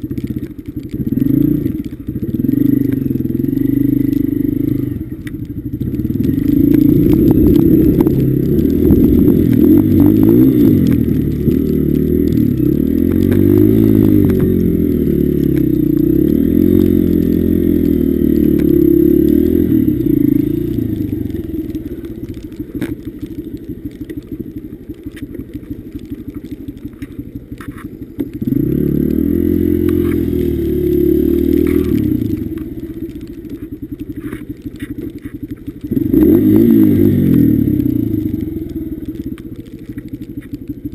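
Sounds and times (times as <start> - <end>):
dirt bike engine revving: 0.0 - 40.5.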